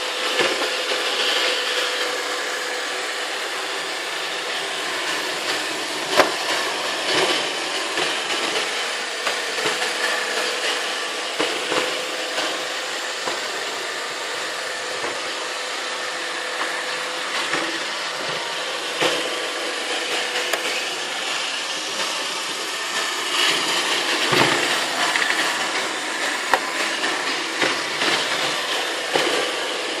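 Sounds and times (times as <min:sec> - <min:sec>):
robot vacuum whirring: 0:00.0 - 0:30.0.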